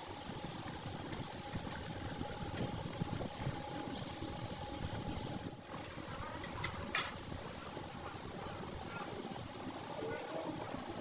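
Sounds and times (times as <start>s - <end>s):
faint constant whine: 0.0s - 11.0s.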